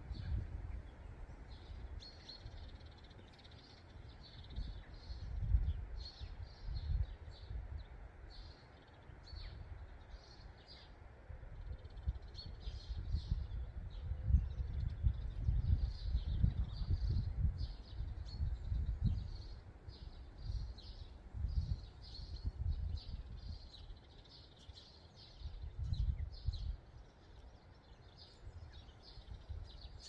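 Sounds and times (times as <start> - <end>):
small birds singing: 0.0 - 30.0
wind rumble on microphone: 0.0 - 30.0.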